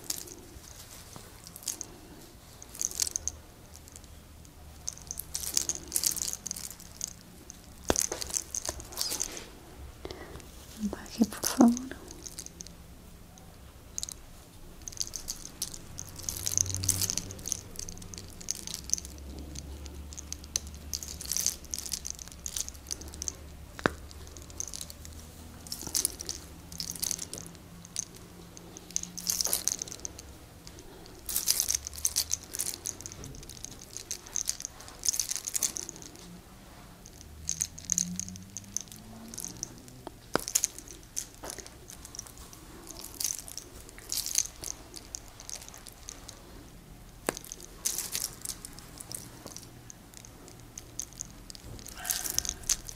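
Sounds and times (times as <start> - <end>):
hair crackling between fingers: 0.0 - 9.6, 10.3 - 52.9.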